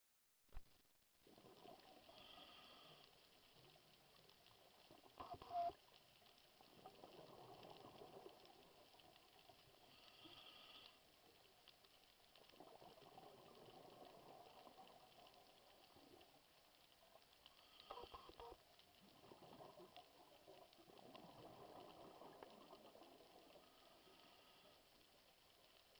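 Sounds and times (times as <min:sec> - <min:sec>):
underwater water noise: 0:00.5 - 0:25.9.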